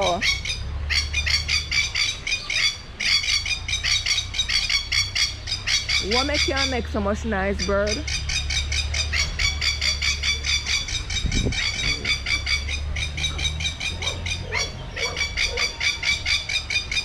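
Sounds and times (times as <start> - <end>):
bird calling with harsh notes: 0.0 - 17.0
low rumble: 2.9 - 17.0.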